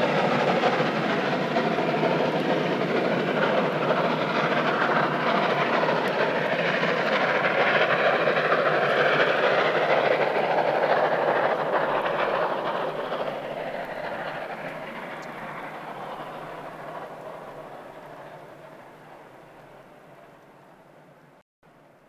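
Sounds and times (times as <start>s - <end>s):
steam locomotive working: 0.0s - 21.4s.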